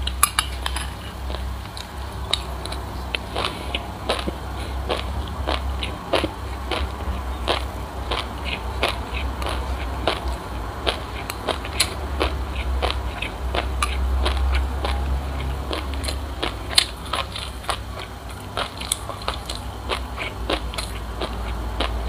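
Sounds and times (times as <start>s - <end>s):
chewing crunchy seeds: 0.0s - 22.0s
steady low hum: 0.0s - 22.0s.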